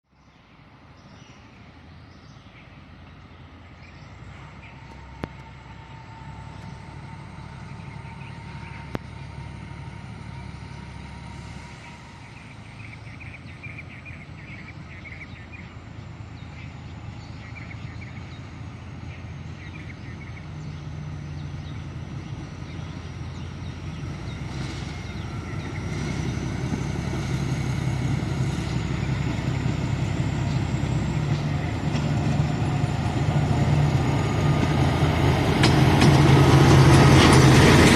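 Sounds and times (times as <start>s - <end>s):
diesel train engine rumble: 0.1s - 37.9s
low engine hum: 0.1s - 37.9s.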